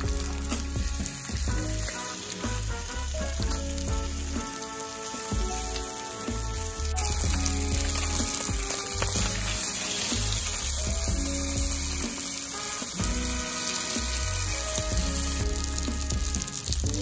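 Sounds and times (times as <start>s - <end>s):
fish sizzling in frying pan: 0.0s - 17.0s
soft background music: 0.0s - 17.0s.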